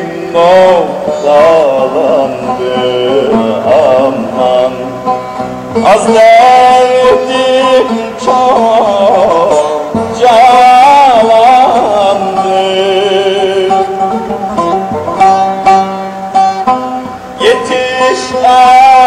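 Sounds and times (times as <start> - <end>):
ornamented folk melody: 0.0 - 19.0.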